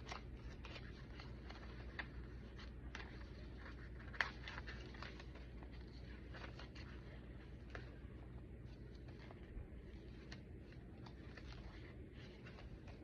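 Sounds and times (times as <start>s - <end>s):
low steady hum: 0.0s - 13.0s
paper rustling: 0.0s - 13.0s.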